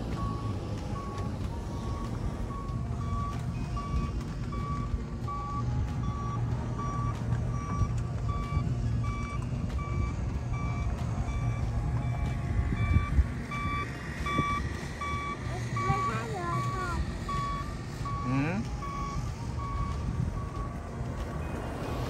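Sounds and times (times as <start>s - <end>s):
short electronic beeps: 0.2s - 20.8s.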